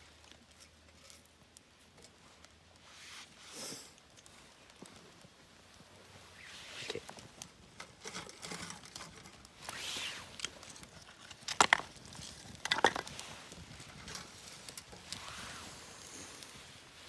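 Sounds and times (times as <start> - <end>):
rustling and crinkling: 0.0 - 17.0.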